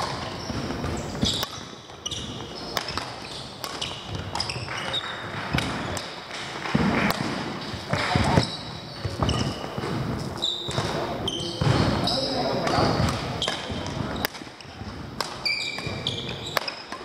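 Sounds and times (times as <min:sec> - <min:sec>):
distant shuttlecock hits: 0:00.0 - 0:17.0
rackets hitting shuttlecock: 0:00.0 - 0:17.0
shoes squeaking on court: 0:00.0 - 0:17.0.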